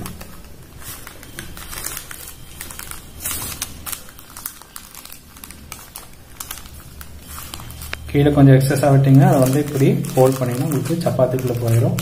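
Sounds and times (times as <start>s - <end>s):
paper crinkling: 0.0s - 12.0s.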